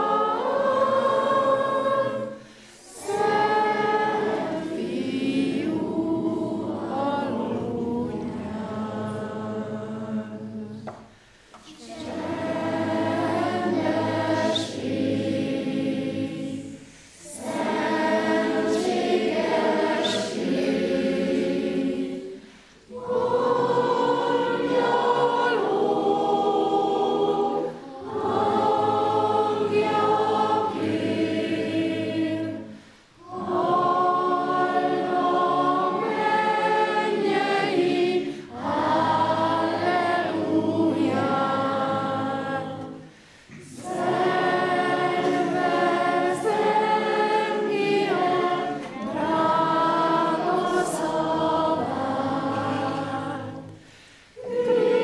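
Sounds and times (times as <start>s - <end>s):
children's choir singing: 0.0s - 55.0s.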